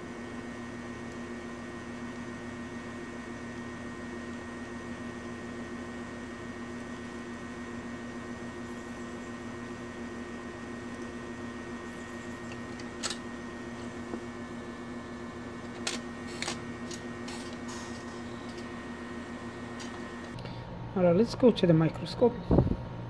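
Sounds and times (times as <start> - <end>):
electrical equipment hum: 0.0 - 23.0.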